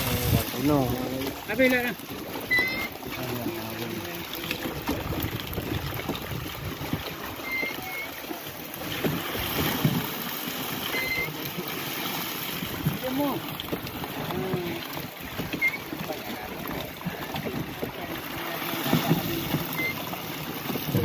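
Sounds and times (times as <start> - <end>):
water sloshing around boat: 0.0 - 21.0.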